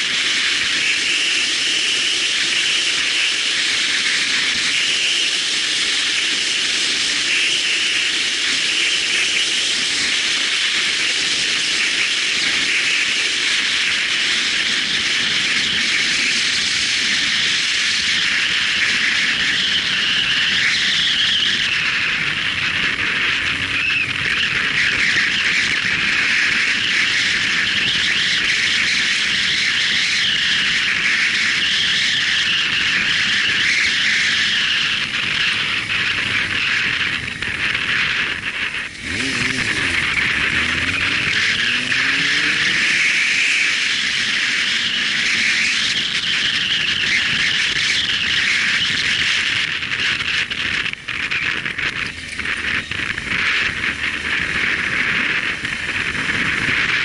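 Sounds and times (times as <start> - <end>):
motorcycle road noise: 0.0 - 57.0.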